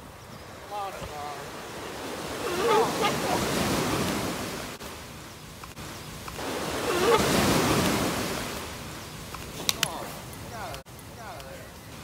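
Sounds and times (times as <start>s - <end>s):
surf washing on beach: 0.0s - 11.4s.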